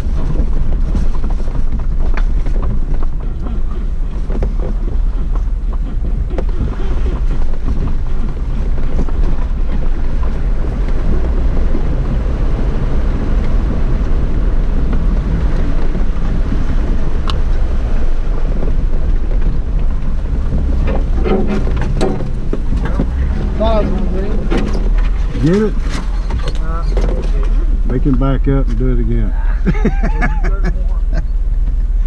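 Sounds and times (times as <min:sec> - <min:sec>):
car engine running: 0:00.0 - 0:32.0
wind buffeting microphone: 0:00.0 - 0:32.0.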